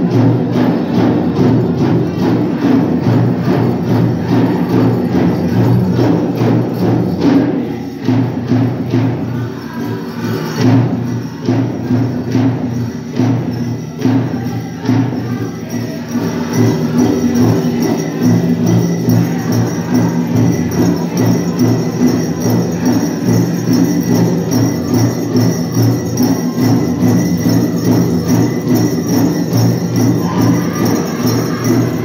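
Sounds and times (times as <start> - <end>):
big drum beat: 0.0 - 32.0
metal cones jingling: 0.1 - 32.0
group singing: 0.4 - 32.0.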